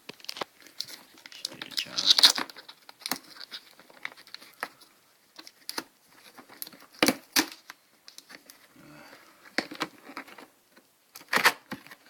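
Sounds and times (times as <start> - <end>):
tape crinkling: 0.0 - 12.0.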